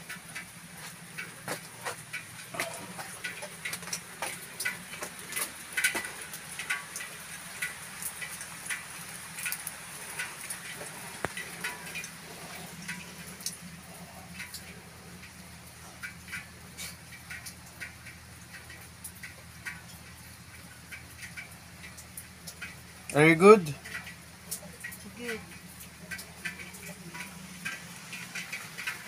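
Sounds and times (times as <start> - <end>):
rain drops tapping on rock: 0.0 - 29.0
steady rain hiss: 0.0 - 29.0.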